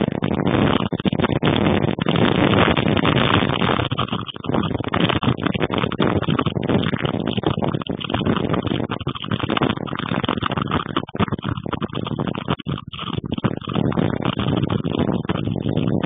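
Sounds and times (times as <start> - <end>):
gusty storm wind: 0.0 - 16.0.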